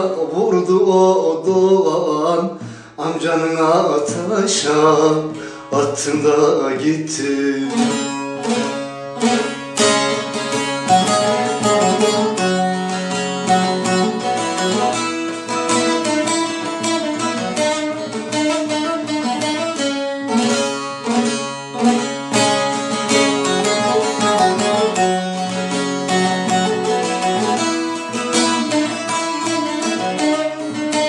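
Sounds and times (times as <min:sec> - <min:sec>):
plucked string instrument: 0:00.0 - 0:31.0.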